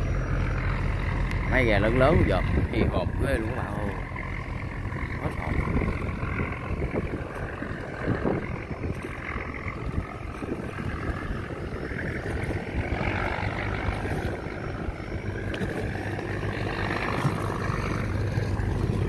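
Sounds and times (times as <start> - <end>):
boat diesel engine pulsing: 0.0 - 19.0.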